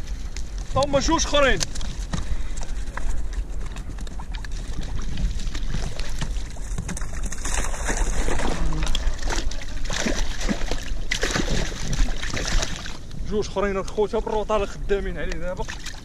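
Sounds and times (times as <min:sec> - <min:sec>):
fishing gear knocks and rustles: 0:00.0 - 0:13.2
wind rumbling on microphone: 0:00.0 - 0:16.0.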